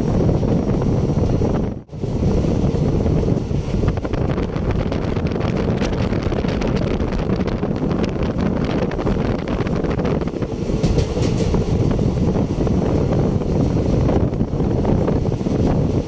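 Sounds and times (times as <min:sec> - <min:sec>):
rail clicks: 0:00.0 - 0:16.0
train rumbling: 0:00.0 - 0:16.0
wind buffeting microphone: 0:00.0 - 0:16.0.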